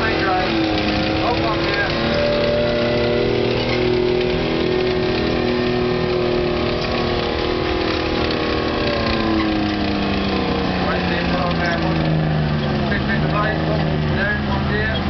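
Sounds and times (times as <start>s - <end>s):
tracked vehicle engine under load: 0.0s - 15.0s.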